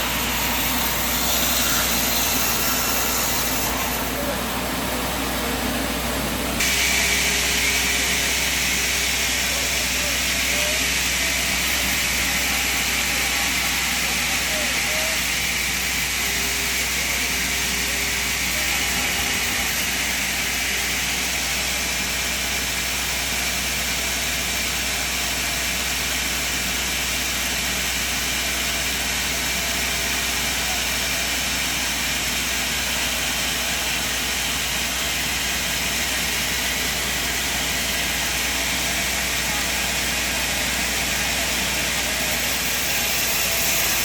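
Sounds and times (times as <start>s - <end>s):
sawmill machine drone: 0.0s - 44.0s.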